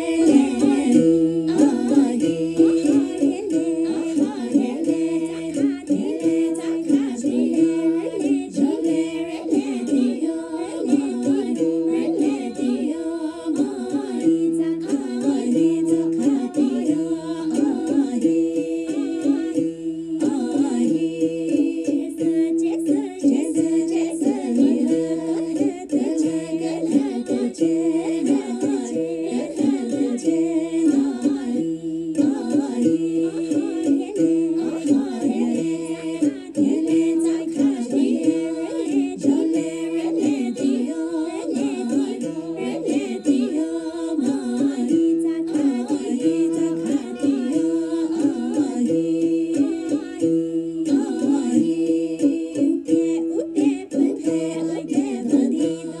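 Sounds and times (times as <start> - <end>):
one-stringed instrument: 0.0 - 56.0
women singing in harmony: 0.0 - 56.0.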